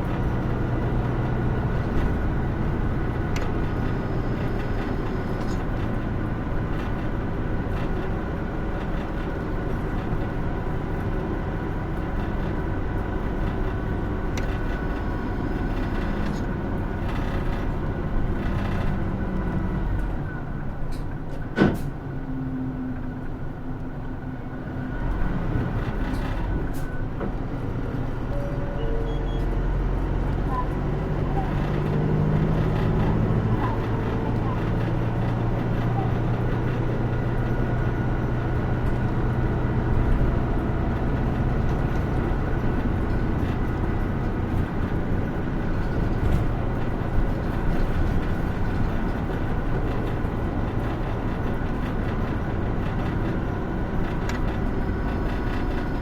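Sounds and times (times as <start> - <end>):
bus engine and road noise: 0.0 - 56.0.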